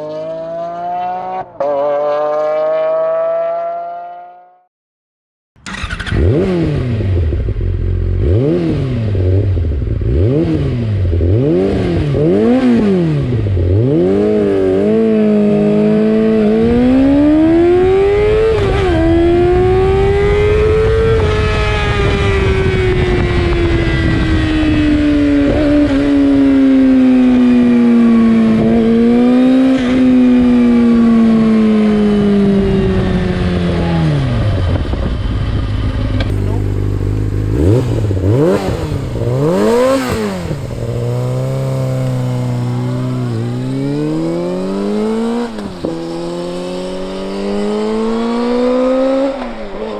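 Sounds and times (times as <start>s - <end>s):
motorcycle engine revving: 0.0s - 4.5s, 5.6s - 49.9s.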